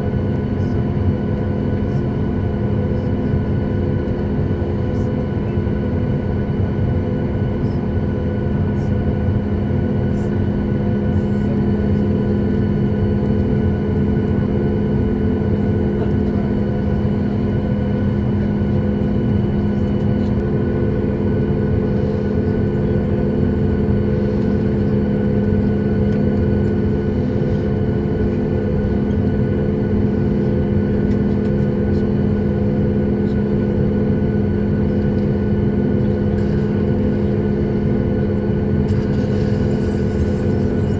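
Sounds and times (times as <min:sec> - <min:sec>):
airplane cabin drone: 0:00.0 - 0:40.9
jet engines idling: 0:00.0 - 0:40.9.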